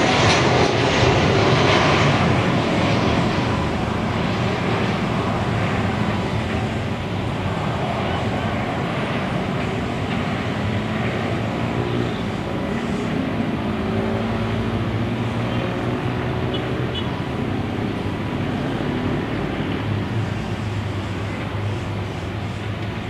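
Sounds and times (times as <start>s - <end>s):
distant jet airliner roar: 0.0s - 23.0s.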